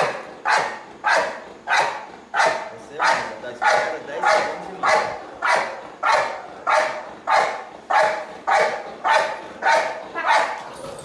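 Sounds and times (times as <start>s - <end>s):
dog barking: 0.0s - 10.7s.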